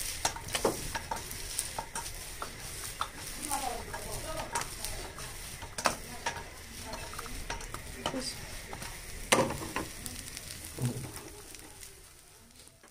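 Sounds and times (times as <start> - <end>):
metal spatula scraping a pan: 0.0 - 11.9
potato sizzling in a pan: 0.0 - 12.9.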